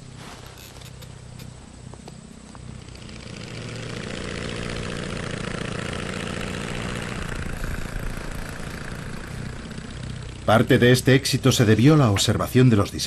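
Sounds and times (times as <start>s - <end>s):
propeller aeroplane engine drone: 0.0s - 13.0s.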